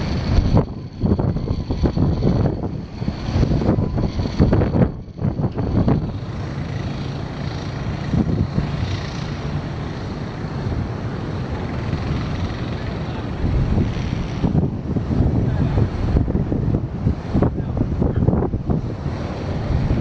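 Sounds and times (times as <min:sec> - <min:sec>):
heavy surf: 0:00.0 - 0:20.0
strong wind: 0:00.0 - 0:20.0
vehicle engine running: 0:00.0 - 0:20.0.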